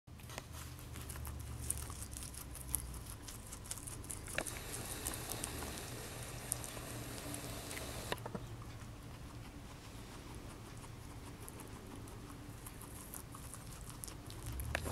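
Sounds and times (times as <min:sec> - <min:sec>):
guinea pig chewing leaves: 0:00.1 - 0:14.9.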